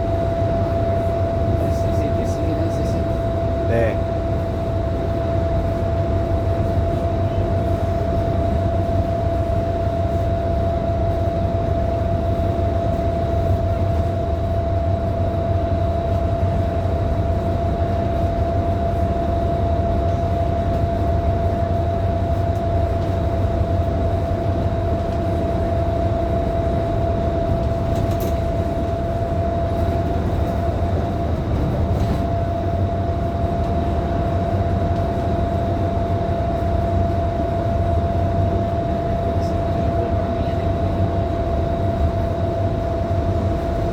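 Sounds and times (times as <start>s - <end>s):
bus engine rumble: 0.0s - 43.9s.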